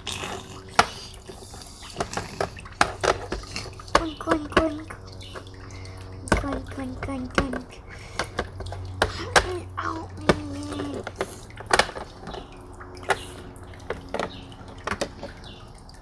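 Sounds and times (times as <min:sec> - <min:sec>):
toy figures clicking and tapping: 0:00.0 - 0:15.8
faint steady hum: 0:00.0 - 0:16.0.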